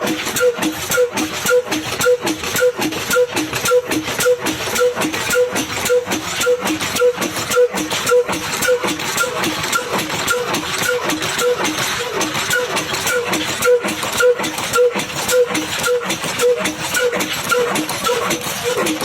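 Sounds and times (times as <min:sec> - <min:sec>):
clatter of sharp clicks: 0:00.0 - 0:19.0
diesel engine rhythmic beat: 0:00.0 - 0:19.0.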